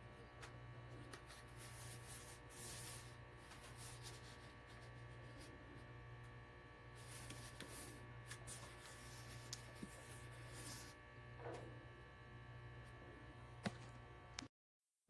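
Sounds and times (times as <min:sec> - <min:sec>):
faint electrical hum: 0:00.0 - 0:14.5.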